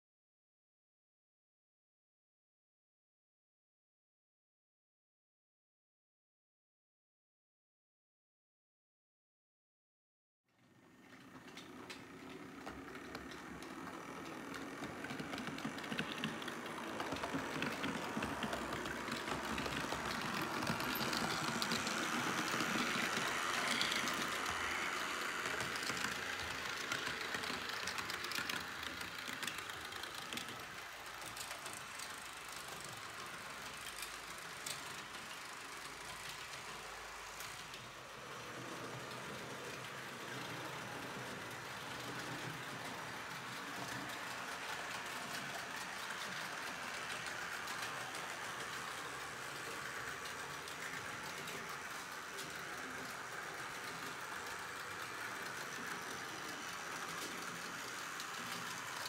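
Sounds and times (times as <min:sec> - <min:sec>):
model train rolling rumble: 0:10.6 - 0:59.0
small track clicks: 0:11.0 - 0:59.0.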